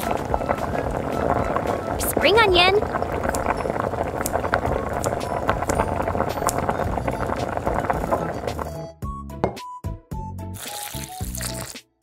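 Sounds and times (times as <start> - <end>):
sauce bubbling in a wok: 0.0 - 8.8, 10.6 - 11.8.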